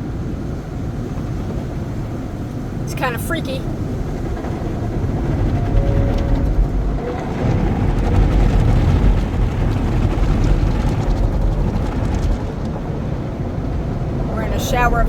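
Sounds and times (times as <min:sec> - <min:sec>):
car wash machinery rumble: 0:00.0 - 0:15.0.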